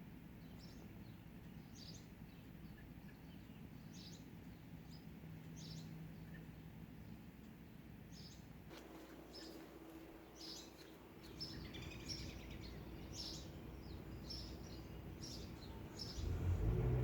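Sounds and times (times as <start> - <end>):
faint steady hum: 0.0 - 17.0
low outdoor ambient noise: 0.0 - 17.0
small birds chirping: 0.0 - 17.0.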